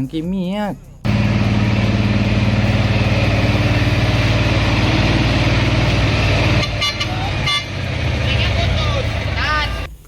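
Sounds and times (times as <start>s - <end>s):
truck engine idling: 0.8s - 10.0s.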